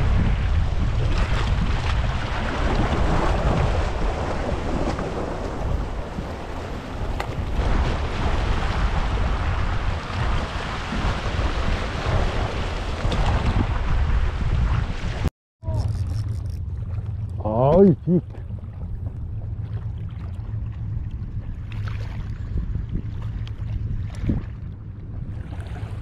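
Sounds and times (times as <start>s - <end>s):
wind buffeting microphone: 0.0s - 15.8s, 17.7s - 26.0s.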